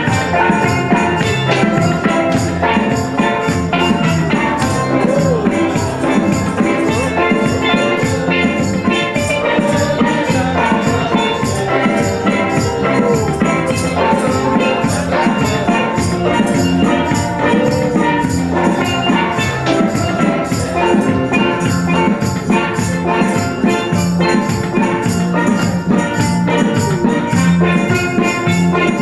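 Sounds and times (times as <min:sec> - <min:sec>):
drums and percussion beat: 0:00.0 - 0:29.0
live gospel band: 0:00.0 - 0:29.0.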